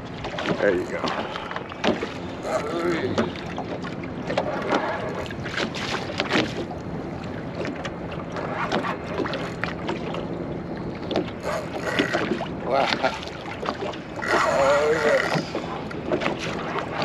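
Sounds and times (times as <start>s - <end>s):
small waves slapping boat hull: 0.0s - 17.0s.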